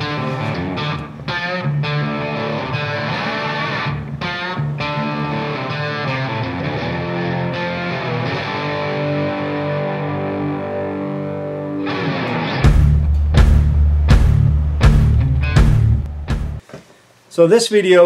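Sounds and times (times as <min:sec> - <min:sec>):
electric guitar instrumental music: 0:00.0 - 0:16.6.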